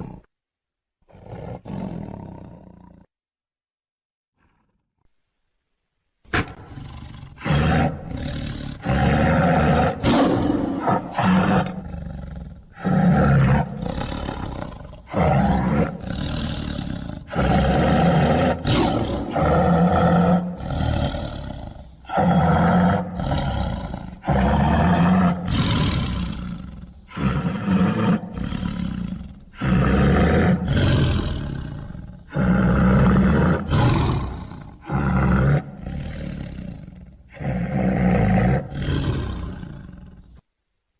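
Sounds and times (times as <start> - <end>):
tiger roaring: 1.1 - 3.1, 6.3 - 40.3.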